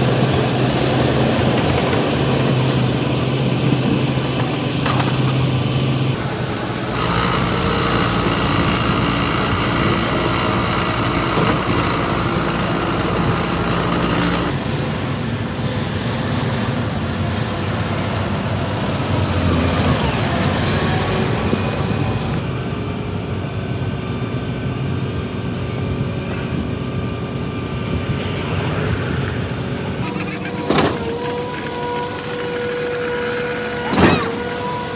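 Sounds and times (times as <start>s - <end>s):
heavy diesel truck engine: 0.0s - 34.9s.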